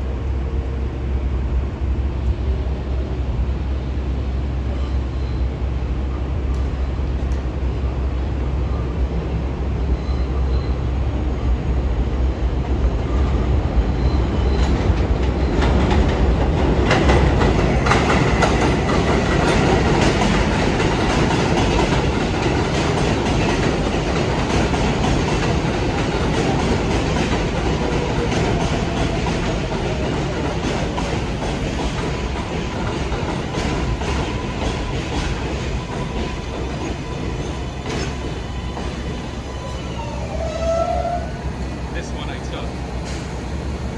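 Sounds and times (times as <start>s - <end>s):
subway train rumbling on track: 0.0s - 43.9s.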